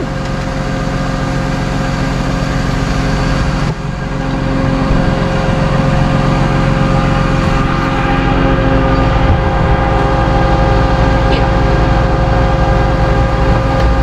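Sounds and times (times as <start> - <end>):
vehicle engine idling: 0.0 - 14.0
steady tone: 1.2 - 14.0.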